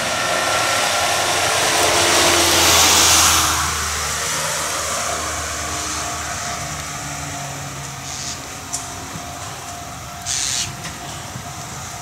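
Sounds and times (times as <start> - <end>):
vehicle noise with hum: 0.0 - 12.0.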